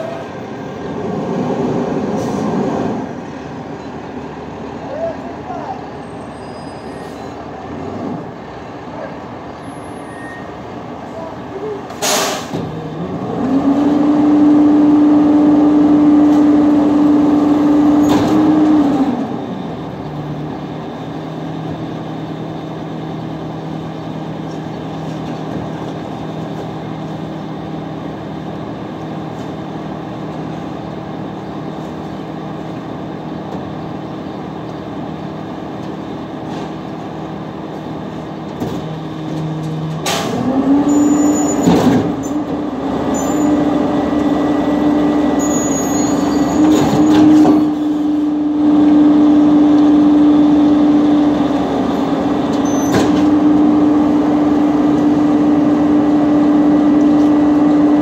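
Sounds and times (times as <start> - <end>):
diesel truck engine revving: 0.0 - 25.0, 25.7 - 58.0.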